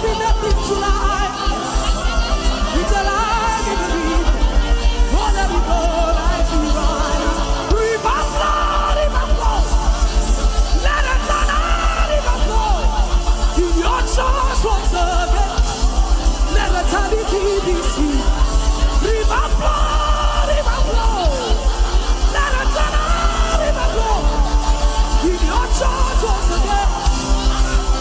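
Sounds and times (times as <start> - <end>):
pulsing bass beat: 0.0 - 28.0.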